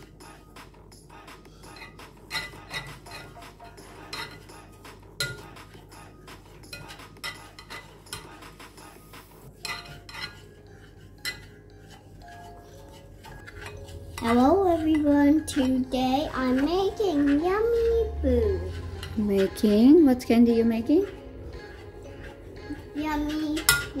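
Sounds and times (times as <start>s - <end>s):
chopstick scraping saucepan: 1.6s - 24.0s.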